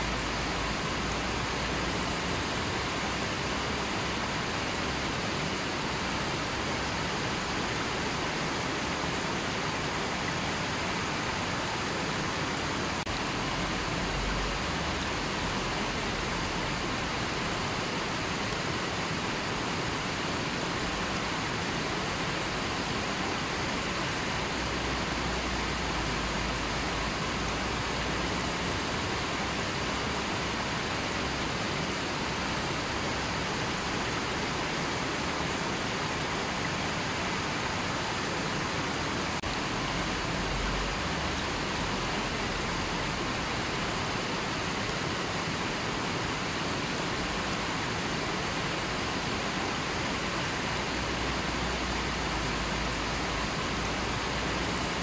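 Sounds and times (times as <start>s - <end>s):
river rushing over boulders: 0.0s - 55.0s.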